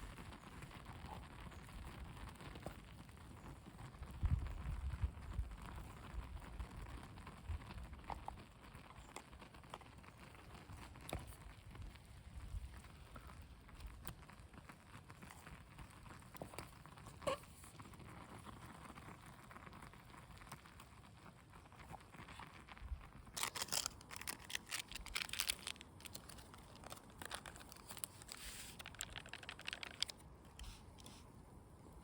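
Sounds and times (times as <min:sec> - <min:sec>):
crackly rustling: 0:00.0 - 0:31.4
faint steady background noise: 0:00.0 - 0:32.0.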